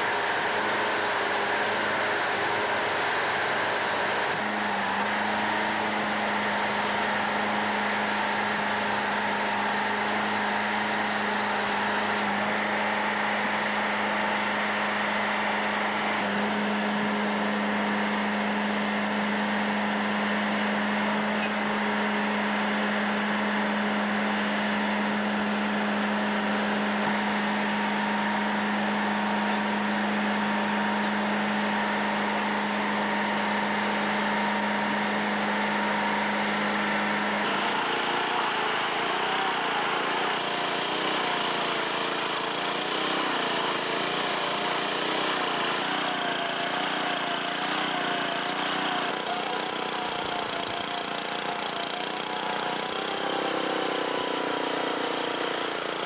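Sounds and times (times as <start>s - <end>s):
machine engine droning: 0.0s - 56.0s.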